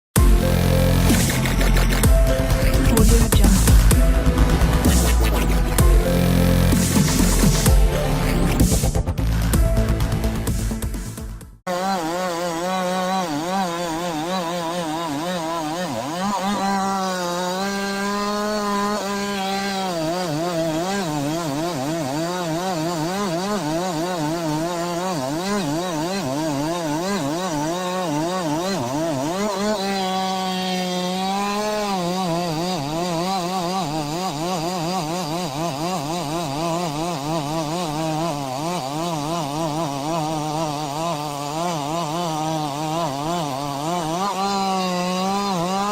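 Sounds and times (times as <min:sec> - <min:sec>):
chainsaw cutting wood: 0:00.2 - 0:45.9.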